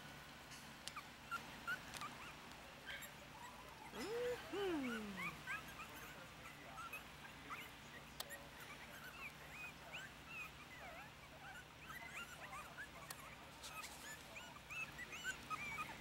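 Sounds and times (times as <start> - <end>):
puppies squeaking and whimpering: 1.0 - 16.0.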